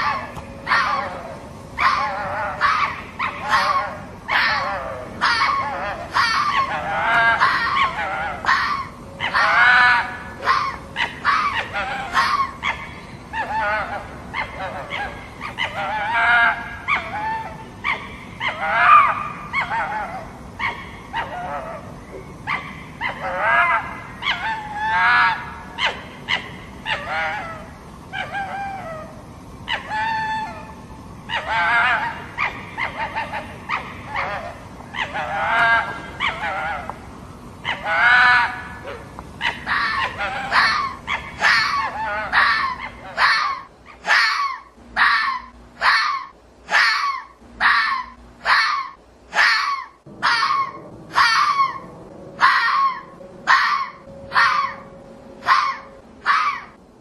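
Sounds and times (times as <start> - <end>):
fox yelping and squealing: 0.0 - 37.0, 37.6 - 56.8.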